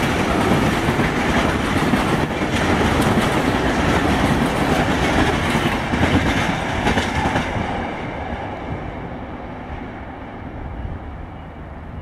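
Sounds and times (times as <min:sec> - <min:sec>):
freight train rolling: 0:00.0 - 0:12.0.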